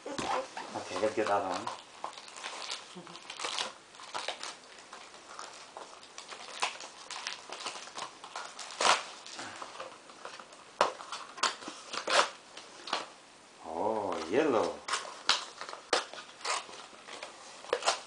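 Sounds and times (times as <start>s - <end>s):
gift wrap rustling: 0.1s - 13.1s, 13.7s - 18.0s.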